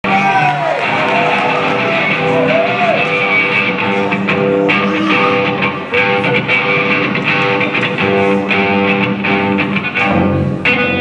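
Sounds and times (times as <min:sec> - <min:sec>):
electric guitars with bent notes: 0:00.0 - 0:11.0.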